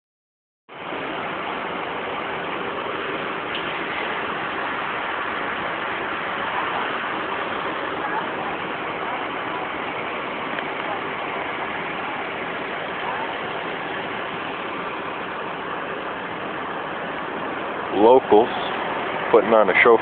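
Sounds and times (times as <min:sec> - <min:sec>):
fire engine idling: 0:00.7 - 0:20.0.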